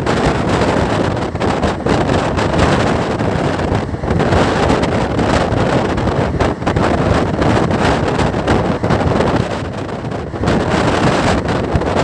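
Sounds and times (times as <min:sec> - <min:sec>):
train wheels rumbling on rails: 0:00.0 - 0:12.0
wind buffeting microphone: 0:00.0 - 0:12.0.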